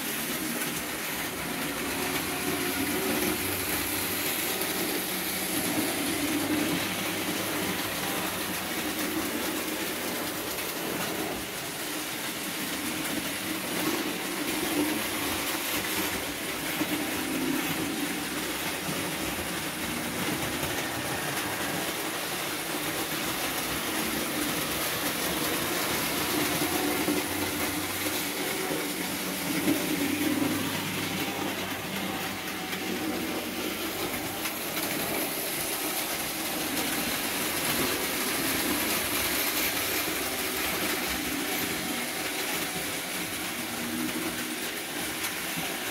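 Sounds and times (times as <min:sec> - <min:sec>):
model trains running on metal track: 0:00.0 - 0:45.9.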